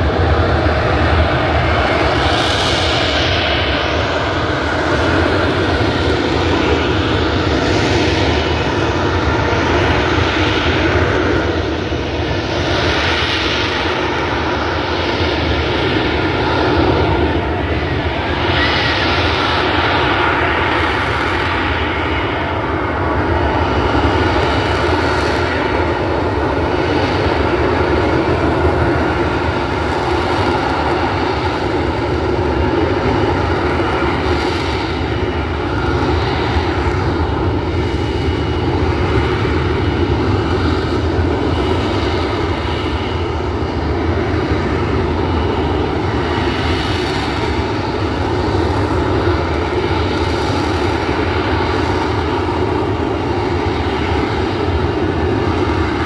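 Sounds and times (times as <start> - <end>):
loud steady jet engine noise: 0.0 - 56.0.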